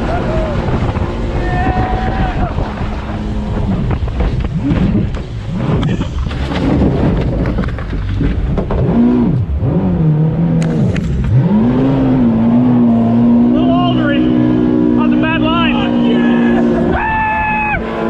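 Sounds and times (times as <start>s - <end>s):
boat engine revving: 0.0s - 18.0s
water rumble: 0.0s - 18.0s
wind: 0.0s - 18.0s.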